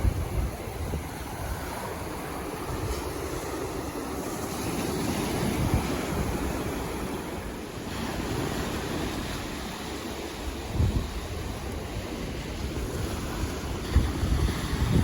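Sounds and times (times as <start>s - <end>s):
ocean surf waves: 0.0s - 15.0s.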